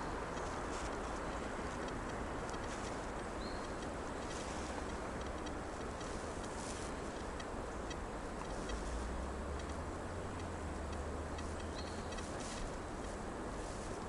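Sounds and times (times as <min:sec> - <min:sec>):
distant road traffic: 0:00.0 - 0:14.0
faint rapid ticking: 0:00.3 - 0:13.2.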